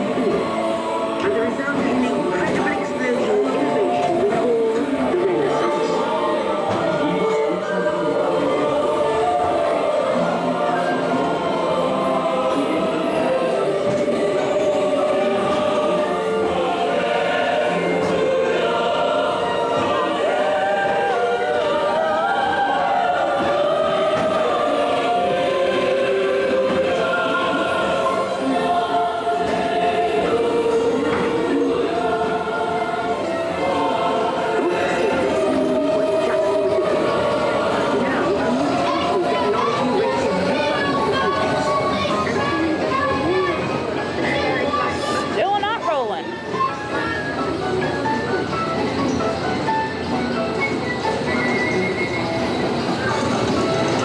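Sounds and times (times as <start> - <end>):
choir singing sustained lines: 0.0 - 45.4.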